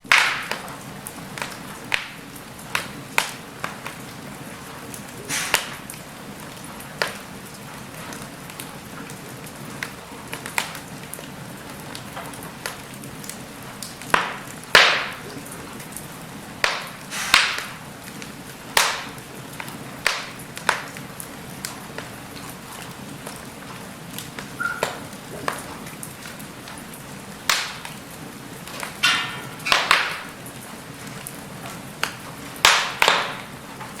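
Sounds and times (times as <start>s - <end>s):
fire crackling and popping: 0.0s - 34.0s
fire hissing: 0.0s - 34.0s.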